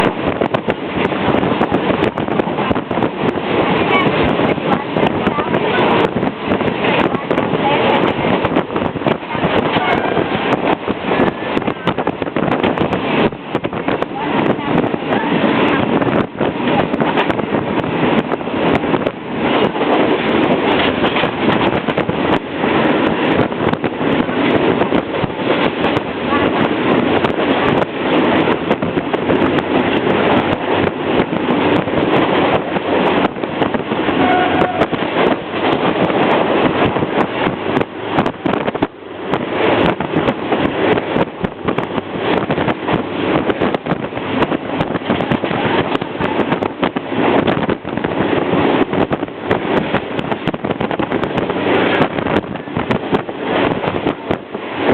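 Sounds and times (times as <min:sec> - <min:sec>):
railway carriage wheels clattering: 0:00.0 - 0:54.9
rushing air: 0:00.0 - 0:54.9.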